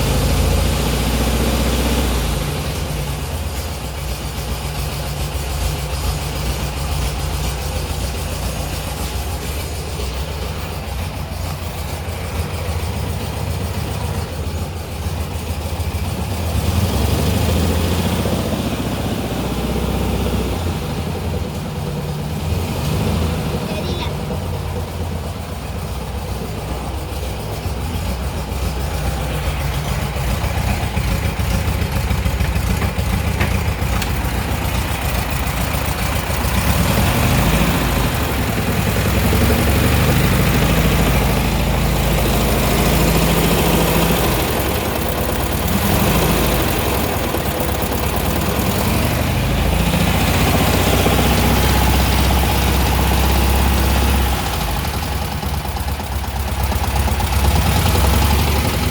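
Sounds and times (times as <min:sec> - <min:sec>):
air-cooled car engine running: 0:00.0 - 0:58.9.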